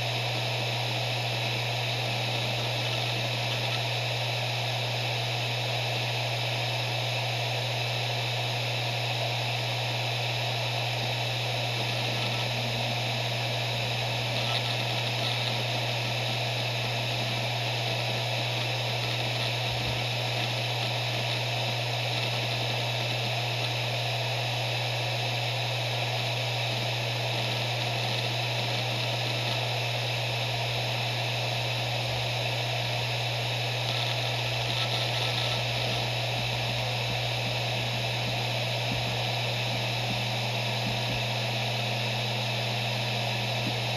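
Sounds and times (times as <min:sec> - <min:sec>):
hard drive humming and hissing: 0:00.0 - 0:43.9.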